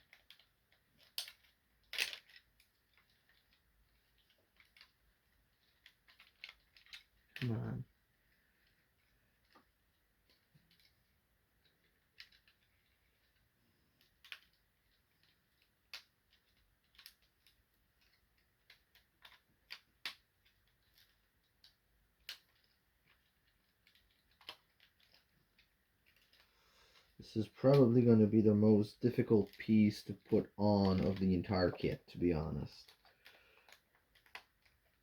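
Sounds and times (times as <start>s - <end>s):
plastic toy parts clicking: 0.0s - 28.1s, 29.0s - 35.0s.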